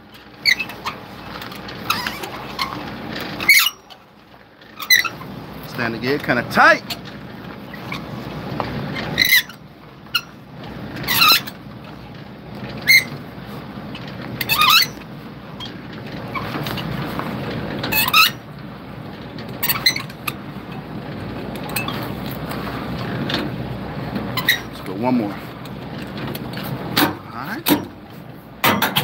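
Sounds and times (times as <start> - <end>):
landing gear crank squeaking: 0.0 - 29.0.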